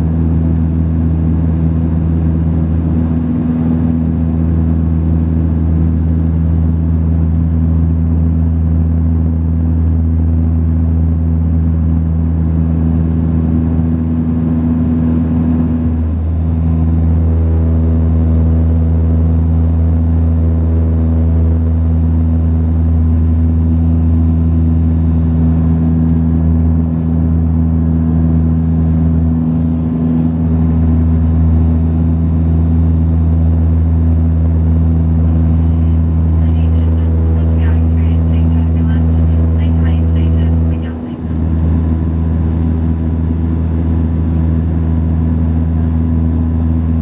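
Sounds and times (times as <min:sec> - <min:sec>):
turboprop cabin drone: 0:00.0 - 0:47.0.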